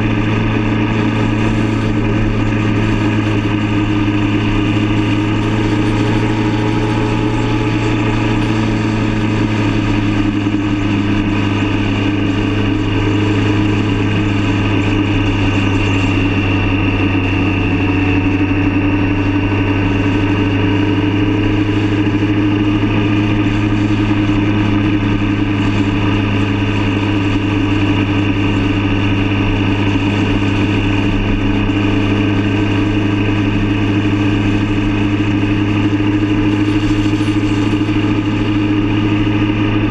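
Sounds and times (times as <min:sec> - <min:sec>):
motorcycle engine droning: 0:00.0 - 0:39.9
wind and road noise: 0:00.0 - 0:39.9.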